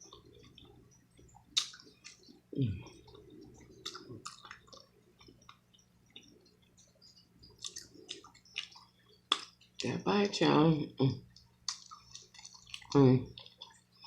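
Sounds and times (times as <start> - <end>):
wet chewing: 0.0 - 9.9, 11.3 - 14.0.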